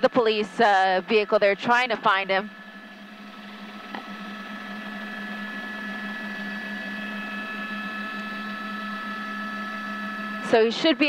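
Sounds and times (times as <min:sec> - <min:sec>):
helicopter engine drone from cabin: 0:00.0 - 0:11.0.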